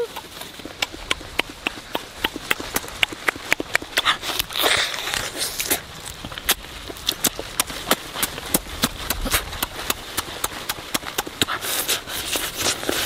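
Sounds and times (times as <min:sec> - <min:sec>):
lip smacks: 0:00.0 - 0:13.0
wet chewing clicks: 0:00.0 - 0:13.0.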